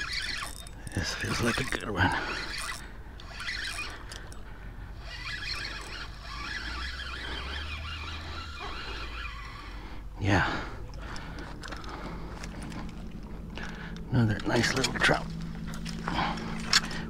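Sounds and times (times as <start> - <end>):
low hum: 0.0 - 17.0
spinning reel cranking whir: 0.0 - 17.0.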